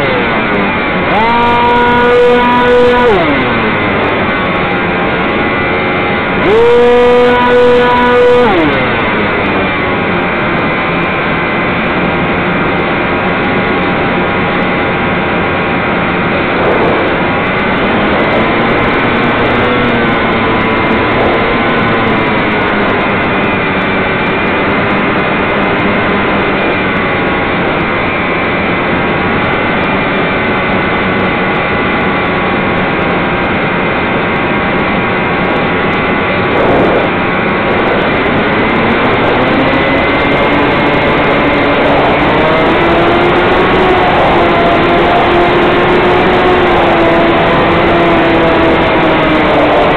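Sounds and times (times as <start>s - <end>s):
rushing air: 0.0s - 47.7s
model airplane motor whine: 0.0s - 49.9s.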